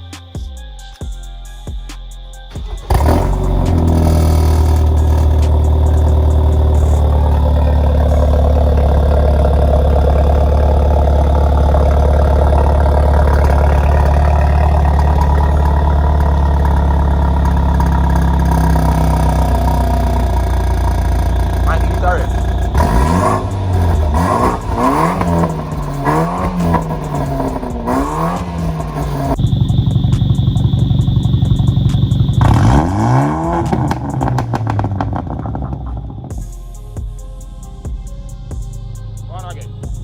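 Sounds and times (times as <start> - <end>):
car engine starting and idling: 2.4 - 40.0.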